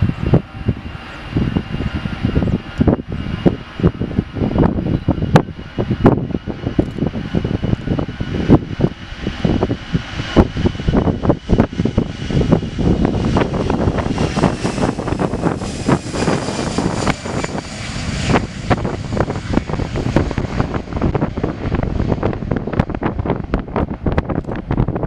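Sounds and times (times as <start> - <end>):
jet engines at takeoff: 0.0 - 25.0
wind buffeting microphone: 0.0 - 25.0.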